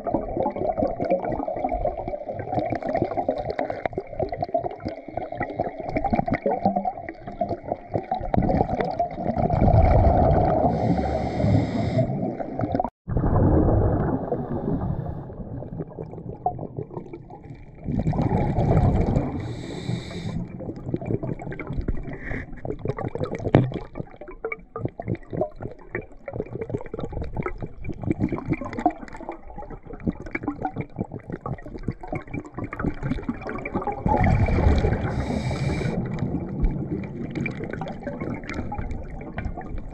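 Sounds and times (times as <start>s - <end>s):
muffled underwater river rush: 0.0s - 39.9s.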